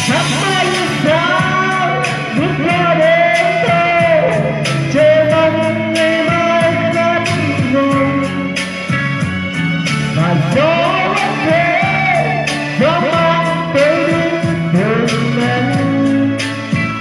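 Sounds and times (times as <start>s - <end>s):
slow ballad music: 0.0s - 17.0s.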